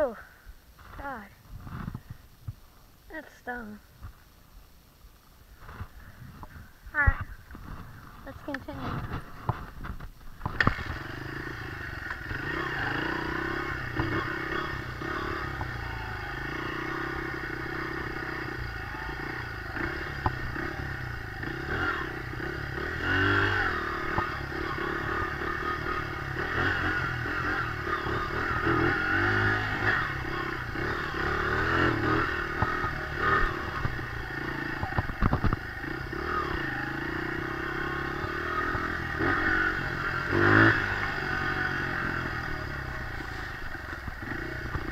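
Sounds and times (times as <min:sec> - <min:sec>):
dirt bike engine revving: 0:07.0 - 0:44.9.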